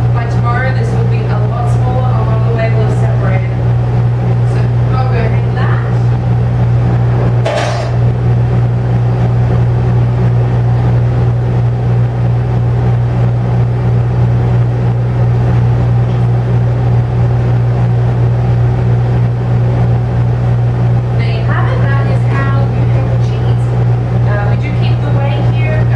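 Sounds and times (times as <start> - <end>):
air conditioner humming: 0.0 - 25.9.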